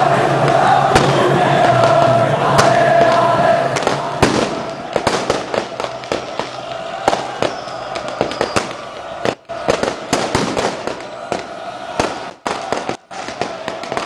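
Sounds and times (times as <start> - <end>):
crowd chanting: 0.0 - 14.0
fireworks bangs and cracks: 0.0 - 14.0
large crowd noise: 0.0 - 14.0.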